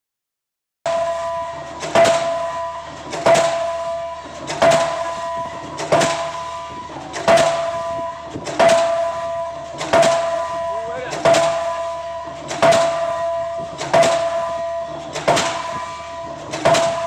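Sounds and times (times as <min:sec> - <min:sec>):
steady tone: 0:00.9 - 0:17.0
pile hammer blows: 0:01.8 - 0:17.0.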